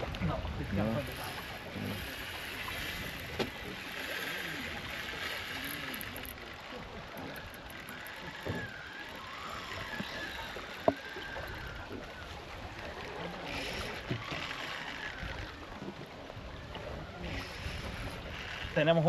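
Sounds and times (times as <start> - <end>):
water around boat: 0.0 - 19.0.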